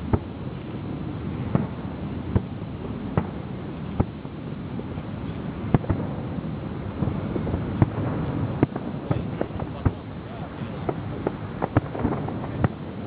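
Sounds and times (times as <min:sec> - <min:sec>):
fireworks bangs: 0:00.0 - 0:13.0
wind noise on microphone: 0:00.0 - 0:13.0.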